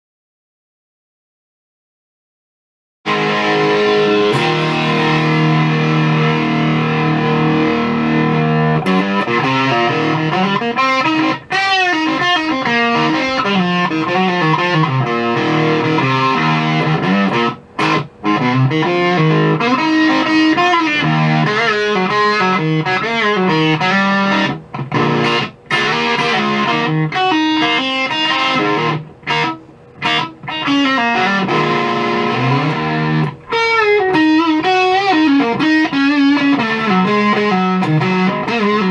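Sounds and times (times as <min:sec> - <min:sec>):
fuzzed electric guitar: 0:03.1 - 0:38.9.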